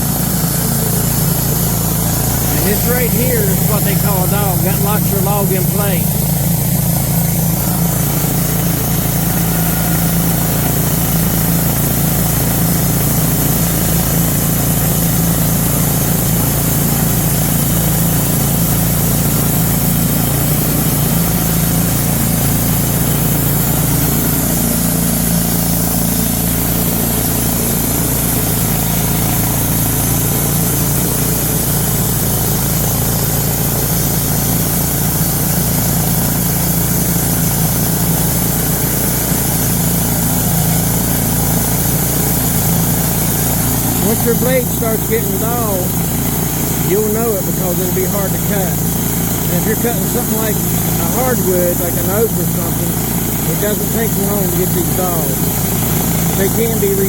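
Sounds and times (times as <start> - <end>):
sawmill gasoline engine running: 0.0 - 57.0.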